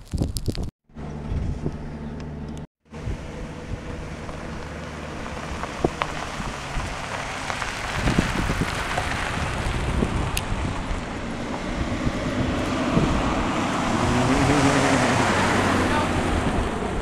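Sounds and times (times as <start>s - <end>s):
truck engine humming: 0.9s - 17.0s.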